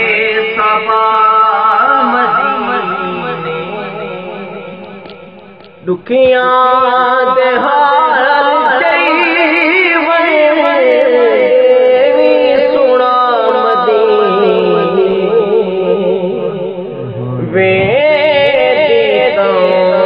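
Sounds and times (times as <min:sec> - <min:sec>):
man singing unaccompanied: 0:00.0 - 0:04.7, 0:05.8 - 0:20.0.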